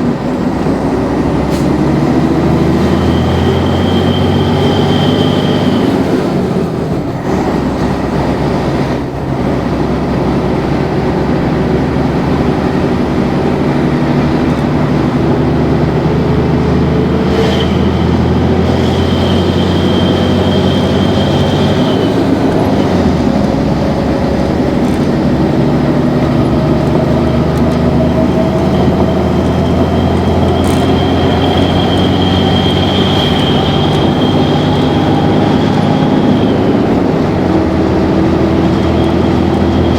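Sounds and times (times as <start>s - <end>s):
bus diesel engine running: 0.0s - 39.9s
high turbo whistle: 0.1s - 7.8s, 10.1s - 39.9s.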